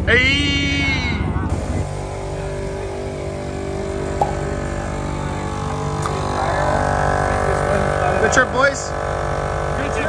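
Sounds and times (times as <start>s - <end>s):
motor droning: 0.8s - 10.0s.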